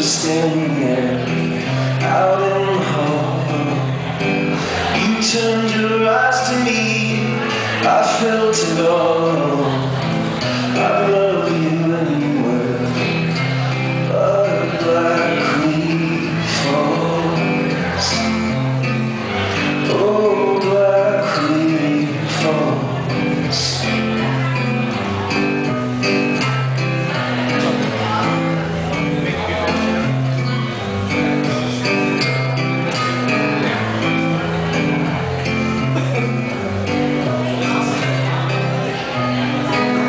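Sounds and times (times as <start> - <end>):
man singing: 0.0 - 25.0, 26.4 - 40.0
acoustic guitar strumming: 0.0 - 40.0.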